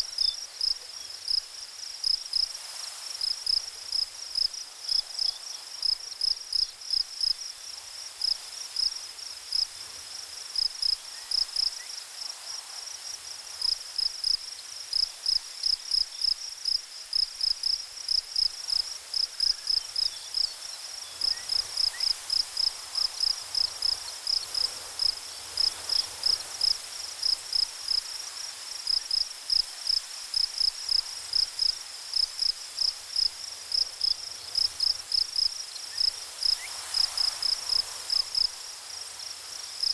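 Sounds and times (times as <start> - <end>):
cricket chirping: 0.0 - 39.9
faint background hiss: 0.0 - 39.9.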